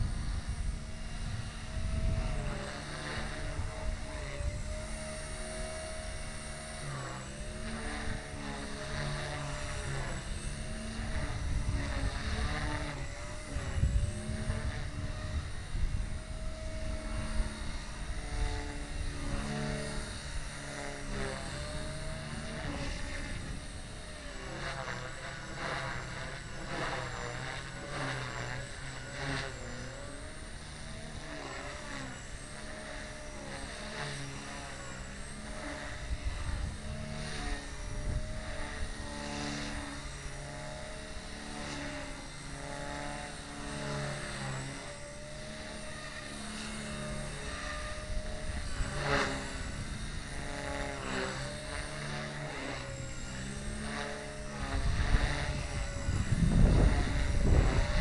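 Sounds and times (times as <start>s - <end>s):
rc helicopter motor whine: 0.0s - 58.0s.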